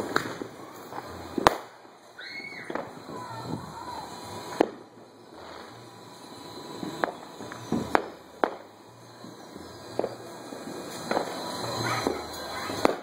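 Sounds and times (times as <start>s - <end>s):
fireworks bangs: 0.0s - 13.0s
steady background noise: 0.0s - 13.0s.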